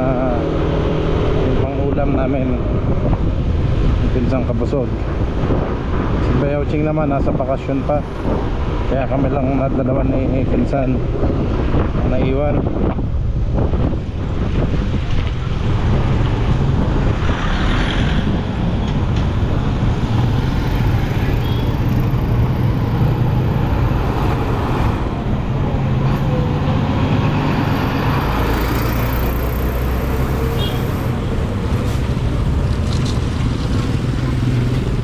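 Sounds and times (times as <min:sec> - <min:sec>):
traffic: 0:00.0 - 0:35.0
wind noise: 0:00.0 - 0:35.0.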